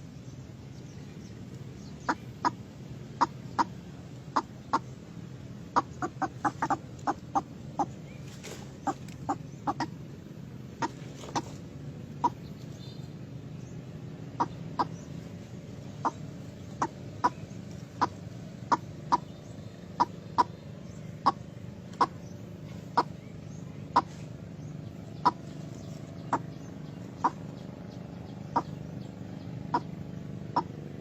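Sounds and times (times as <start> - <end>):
waterhen clucking calls: 1.4 - 13.3, 13.9 - 31.0.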